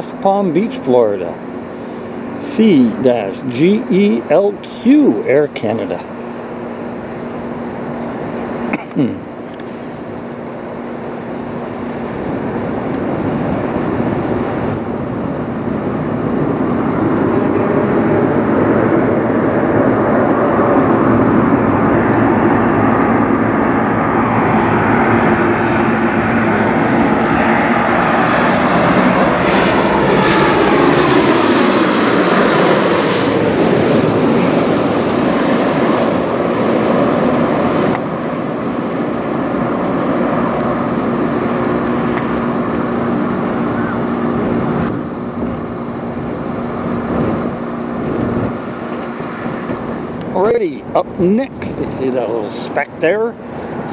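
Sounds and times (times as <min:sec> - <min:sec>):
jet airliner passing overhead: 0:00.0 - 0:53.9.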